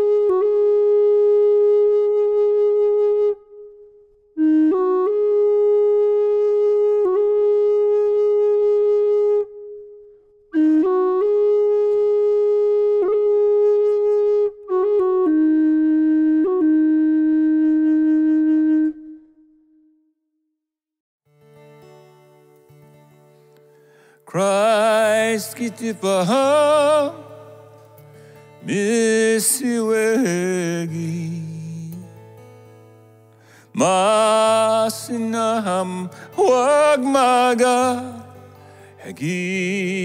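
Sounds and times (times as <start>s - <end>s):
solo woodwind melody: 0.0s - 20.3s, 24.0s - 40.0s.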